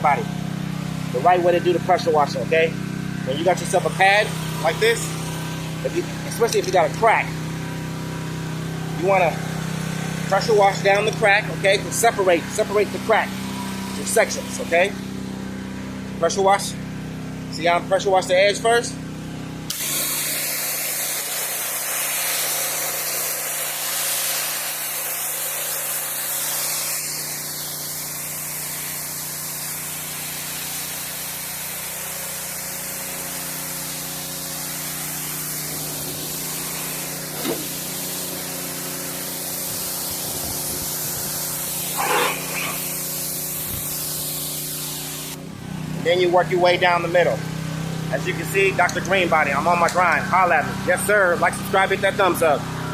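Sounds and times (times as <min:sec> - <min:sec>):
pressure washer jet hissing on concrete: 0:00.0 - 0:52.9
pressure washer machine hum: 0:00.0 - 0:52.9.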